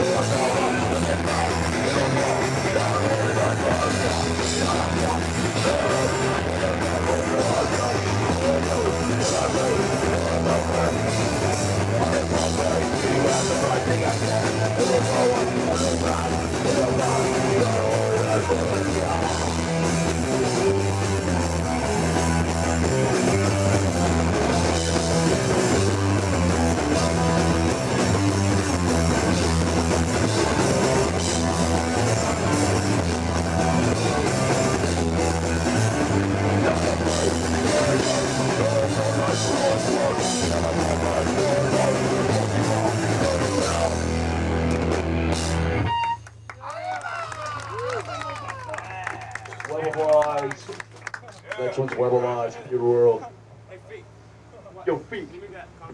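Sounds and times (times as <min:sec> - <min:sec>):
drum kit: 0:00.0 - 0:46.2
electric guitar: 0:00.0 - 0:50.3
bass guitar: 0:00.0 - 0:50.4.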